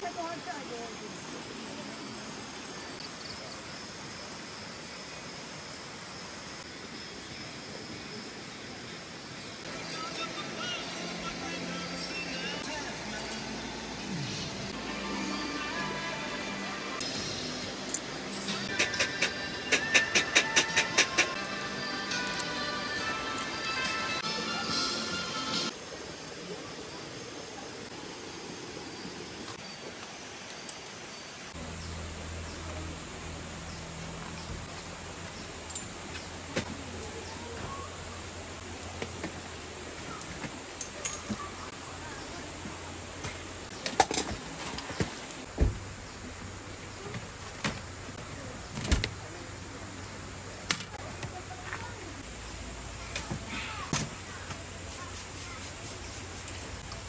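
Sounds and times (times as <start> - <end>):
outdoor hiss: 0.0 - 57.0.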